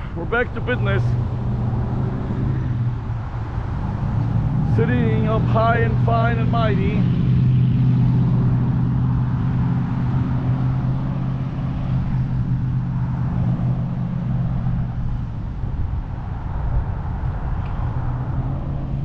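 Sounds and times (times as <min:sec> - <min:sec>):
low engine hum: 0:00.0 - 0:19.0
road traffic: 0:00.0 - 0:19.0
wind noise on microphone: 0:00.0 - 0:19.0.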